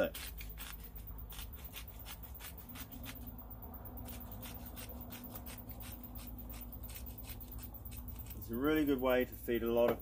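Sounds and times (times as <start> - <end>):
spice grinder rasping: 0.0 - 3.3, 4.0 - 9.0.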